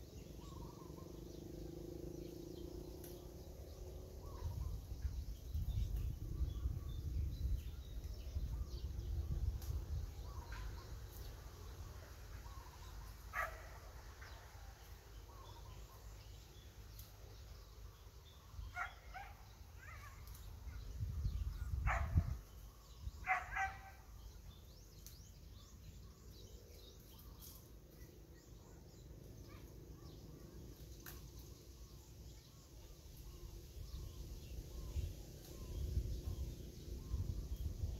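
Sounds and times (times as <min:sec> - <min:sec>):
faint bird chirps: 0:02.3 - 0:37.9.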